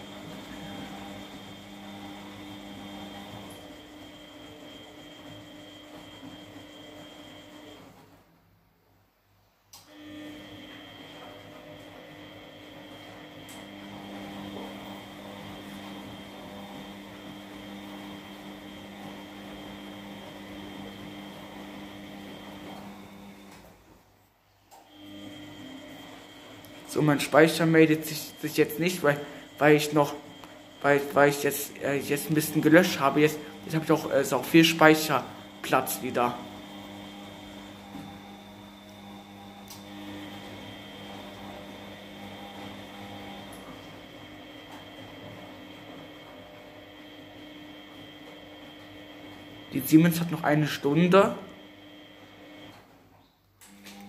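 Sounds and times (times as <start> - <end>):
washing machine motor hum: 0.0 - 9.2, 9.8 - 54.0.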